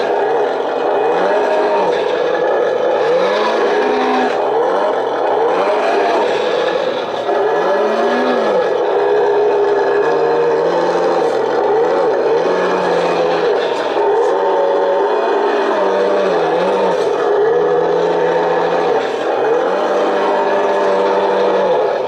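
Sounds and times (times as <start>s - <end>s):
simulated diesel engine revving: 0.0s - 22.0s.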